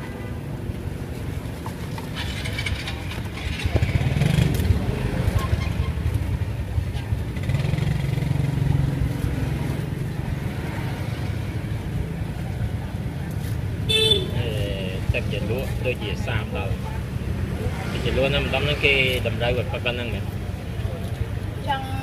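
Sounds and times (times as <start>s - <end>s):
motorbikes passing: 0.0s - 22.0s.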